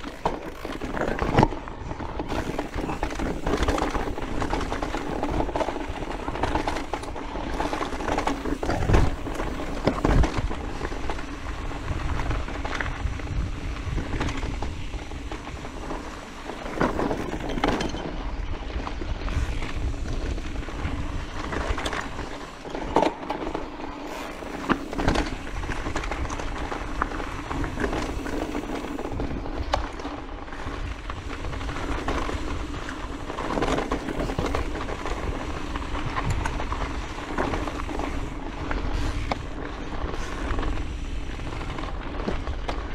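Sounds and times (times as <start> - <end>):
tyres crunching on loose stones: 0.0 - 40.0
bike rattling and knocking: 0.0 - 42.9
wind rumbling on microphone: 0.0 - 42.9.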